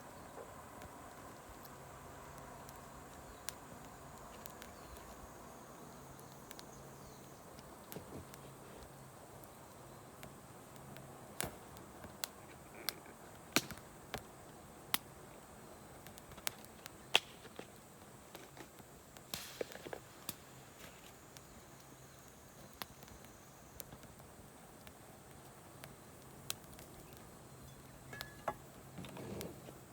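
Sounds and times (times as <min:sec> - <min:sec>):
campfire crackling: 0:00.0 - 0:29.9.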